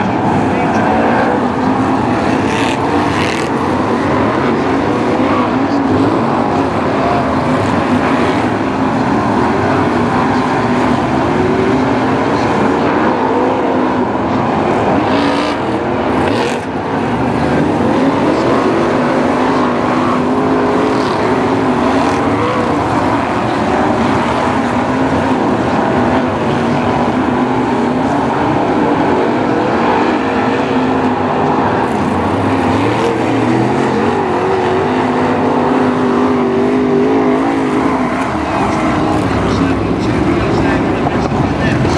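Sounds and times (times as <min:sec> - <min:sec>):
racing car engines: 0:00.0 - 0:41.9.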